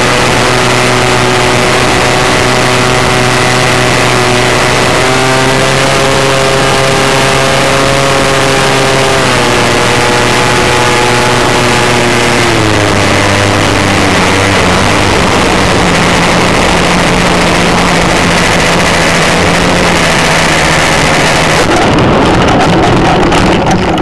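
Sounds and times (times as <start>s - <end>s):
model airplane engine: 0.0s - 24.0s
wind rushing over microphone: 0.0s - 24.0s.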